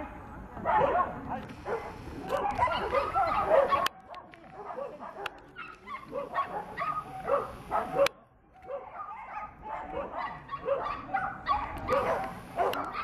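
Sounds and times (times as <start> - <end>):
dog barking and yipping: 0.7 - 13.0.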